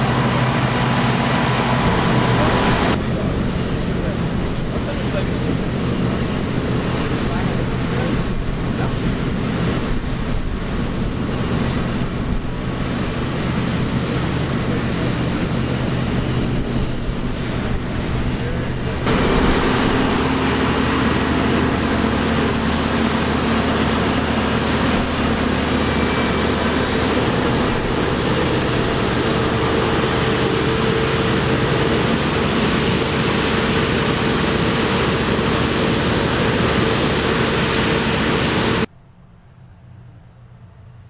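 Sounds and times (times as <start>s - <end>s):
heavy farm machinery running: 0.0s - 38.9s.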